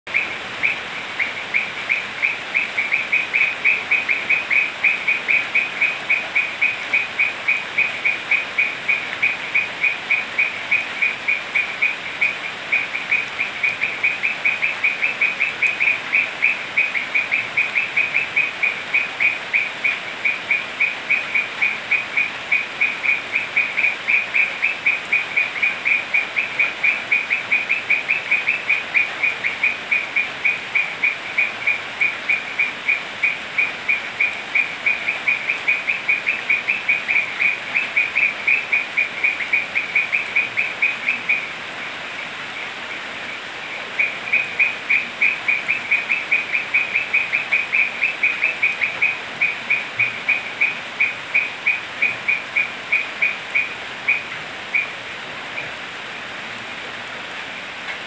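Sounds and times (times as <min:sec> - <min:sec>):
frog calling: 0:00.1 - 0:56.0
rain hiss: 0:00.1 - 0:58.0.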